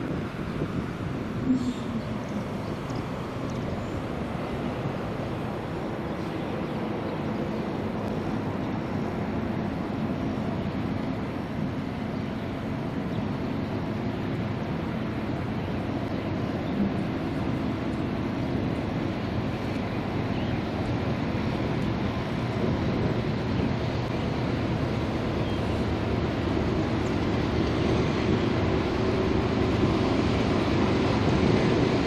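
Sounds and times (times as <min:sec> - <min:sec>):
distant diesel engine: 0:00.0 - 0:32.0.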